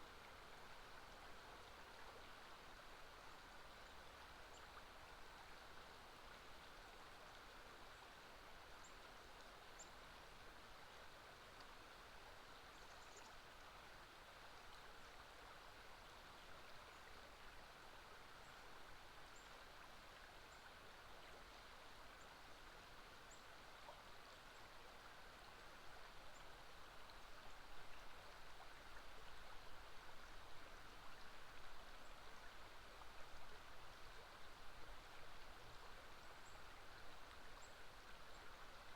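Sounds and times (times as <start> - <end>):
flowing river water: 0.0 - 38.9.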